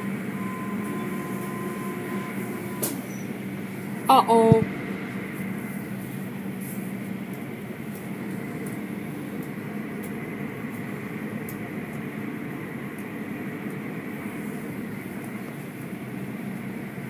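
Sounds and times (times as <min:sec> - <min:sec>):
car wash motor hum: 0:00.0 - 0:17.0.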